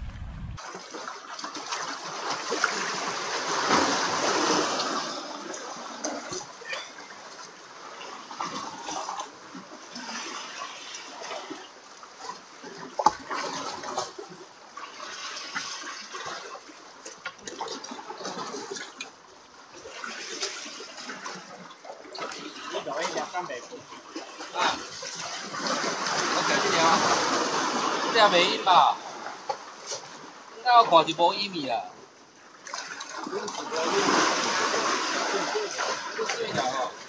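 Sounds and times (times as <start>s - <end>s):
seawater sloshing and gurgling: 0.0s - 37.0s.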